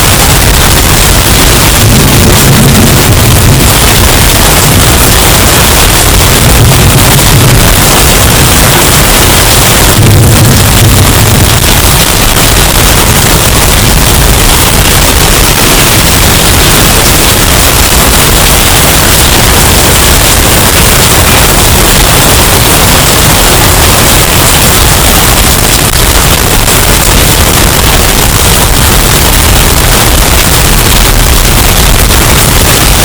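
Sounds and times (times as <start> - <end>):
distorted hurricane wind: 0.0 - 33.0.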